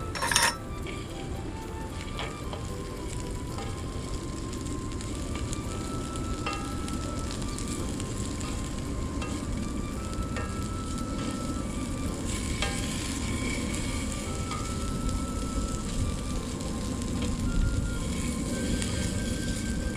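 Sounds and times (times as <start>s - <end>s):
food sizzling in a frying pan: 0.0s - 19.9s.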